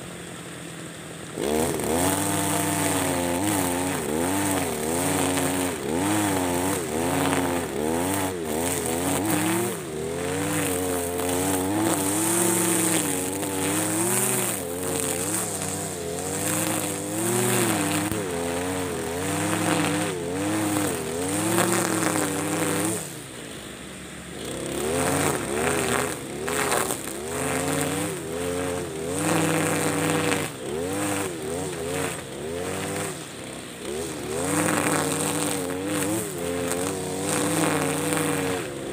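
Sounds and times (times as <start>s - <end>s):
brush cutter engine revving: 0.0s - 38.9s
nylon line cutting grass: 1.2s - 38.9s.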